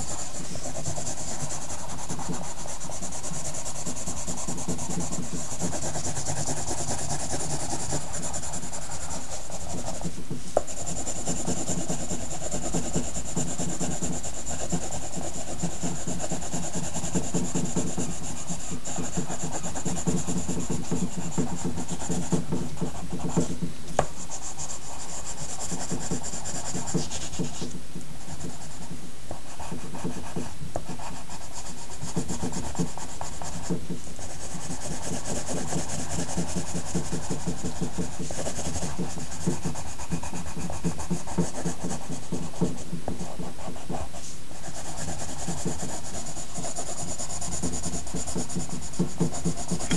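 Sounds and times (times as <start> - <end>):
pencil scratching on paper: 0.0 - 49.9.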